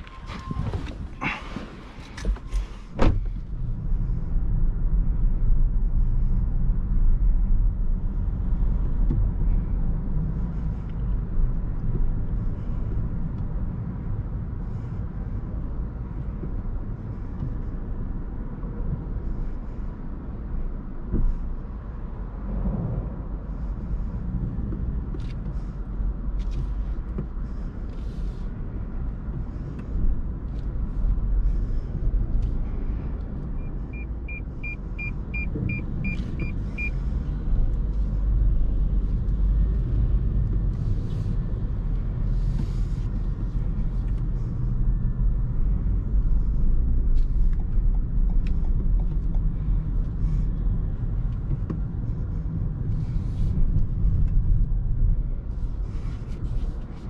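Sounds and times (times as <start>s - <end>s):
car road and tyre rumble: 0.0s - 57.0s.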